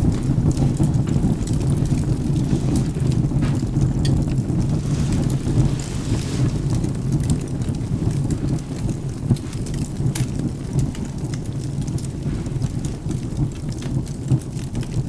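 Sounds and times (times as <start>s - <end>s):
rain: 0.0s - 15.0s
thunder rumbling: 0.0s - 15.0s
wood fire crackling: 0.0s - 15.0s.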